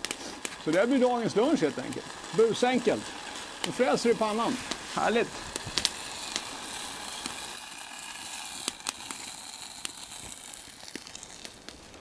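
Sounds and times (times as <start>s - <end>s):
food sizzling in a frying pan: 0.0s - 12.0s
wood fire snapping: 0.0s - 12.0s.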